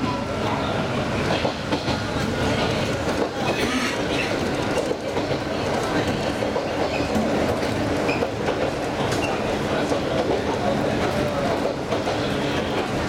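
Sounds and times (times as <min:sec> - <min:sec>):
train running rumble: 0:00.0 - 0:13.0
train wheels clattering over joints: 0:01.2 - 0:13.0.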